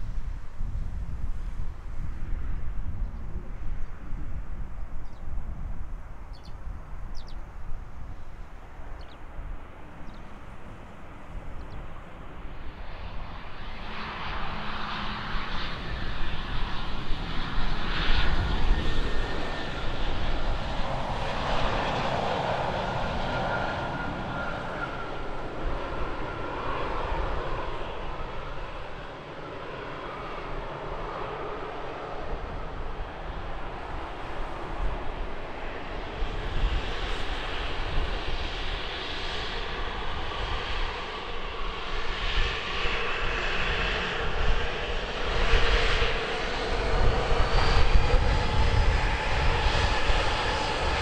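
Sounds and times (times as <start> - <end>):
faint engine whine: 0.0 - 51.0
passenger aircraft engines: 0.0 - 51.0.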